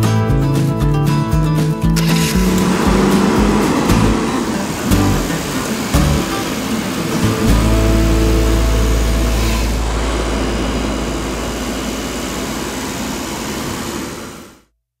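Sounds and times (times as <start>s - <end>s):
car engine idling: 2.0s - 14.7s.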